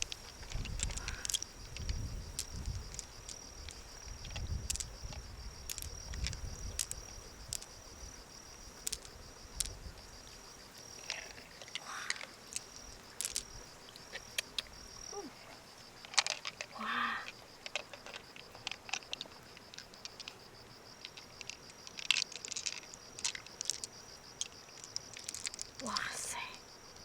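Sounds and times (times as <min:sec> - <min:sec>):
high insect trill: 0:00.0 - 0:27.0.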